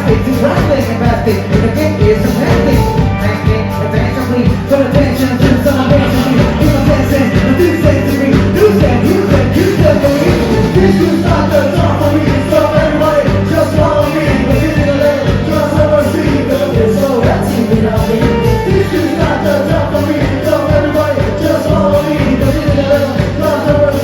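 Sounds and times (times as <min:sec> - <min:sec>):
pop-rock music with singing: 0:00.0 - 0:24.0.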